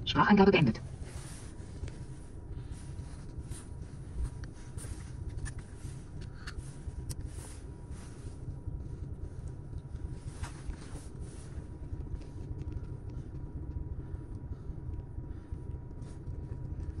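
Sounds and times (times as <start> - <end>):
faint hum: 0.0 - 17.0
low rumble in car cabin: 0.0 - 17.0.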